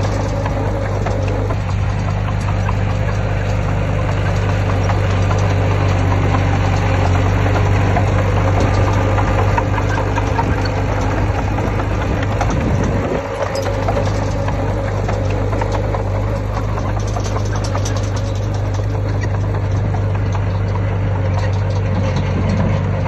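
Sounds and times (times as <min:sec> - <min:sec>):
bulldozer diesel engine running: 0:00.0 - 0:23.0
light clicks and rattles: 0:00.0 - 0:23.0.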